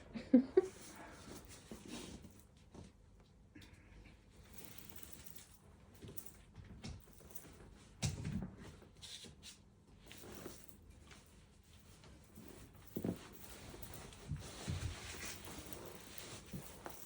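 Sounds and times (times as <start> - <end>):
rustling and shuffling: 0.6 - 3.4, 4.3 - 17.0.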